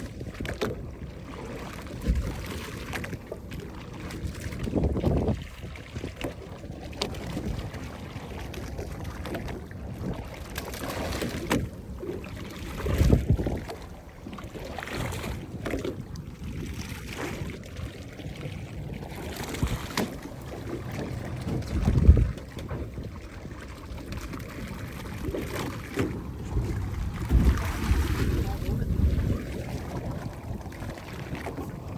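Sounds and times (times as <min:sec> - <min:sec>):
low water surge: 0:00.0 - 0:31.9
water noise: 0:00.0 - 0:31.9
wind: 0:00.0 - 0:31.9.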